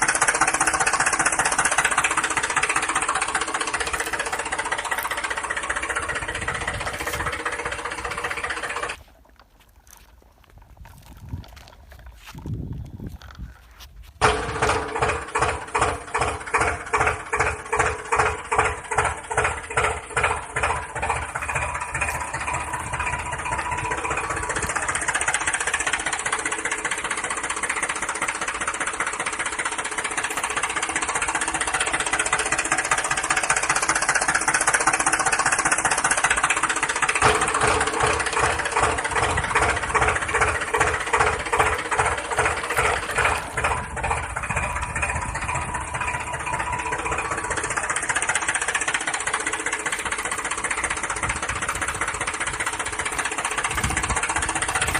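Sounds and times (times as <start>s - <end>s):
engine chugging: 0.0s - 54.9s.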